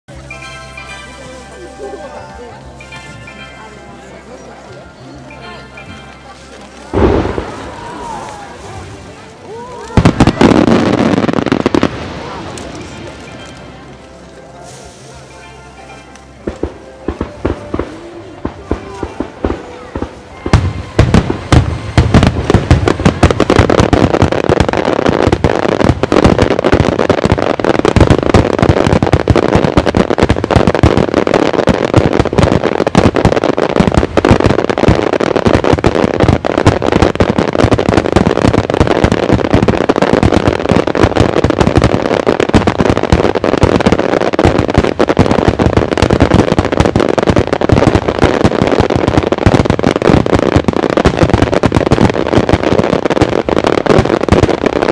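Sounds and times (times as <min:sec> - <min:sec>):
fireworks barrage: 0:00.1 - 0:54.9.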